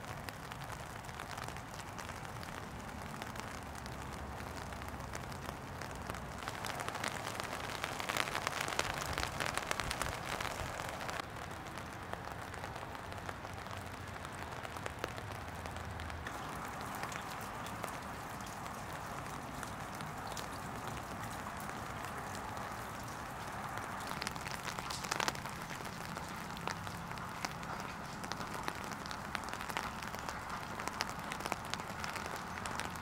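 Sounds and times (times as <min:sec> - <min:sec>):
rain patter: 0:00.0 - 0:33.0.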